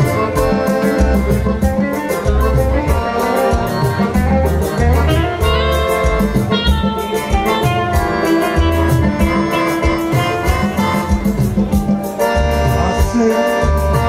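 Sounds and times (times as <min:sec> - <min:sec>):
electric guitar melody: 0:00.0 - 0:14.0
repeating bass line: 0:00.0 - 0:14.0
steady drum beat: 0:00.0 - 0:14.0.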